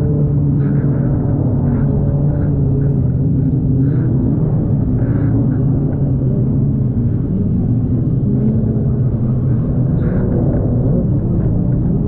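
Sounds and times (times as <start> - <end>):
jet ski engine droning: 0.0 - 12.0.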